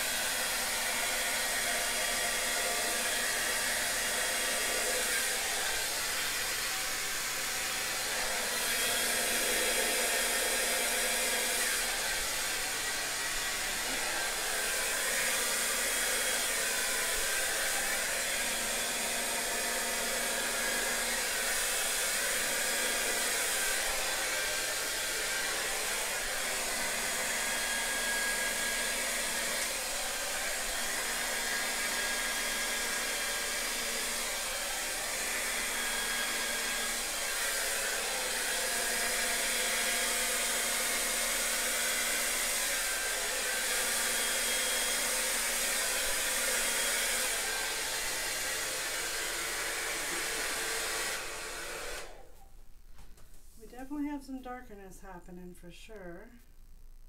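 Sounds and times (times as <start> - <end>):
hair dryer blowing: 0.0 - 52.5, 53.7 - 54.2.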